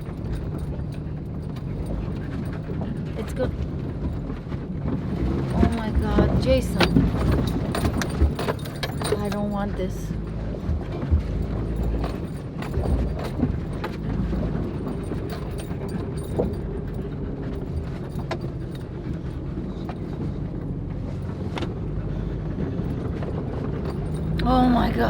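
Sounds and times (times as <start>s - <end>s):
engine running at low speed: 0.0s - 25.0s.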